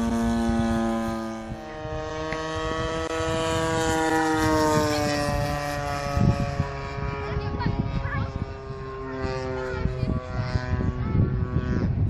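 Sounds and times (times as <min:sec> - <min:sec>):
model plane engine drone: 0:00.0 - 0:12.0.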